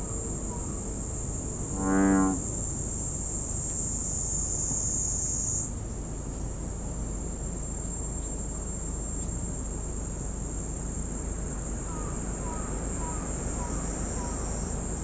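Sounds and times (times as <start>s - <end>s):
shrill insect chorus: 0.0s - 15.0s.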